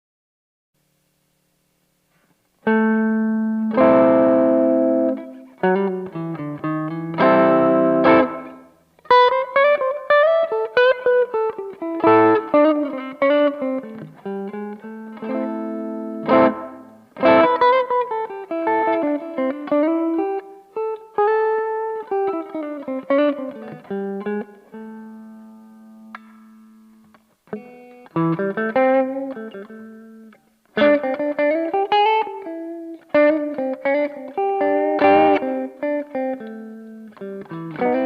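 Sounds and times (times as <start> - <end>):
overdriven electric guitar: 2.1 - 38.0.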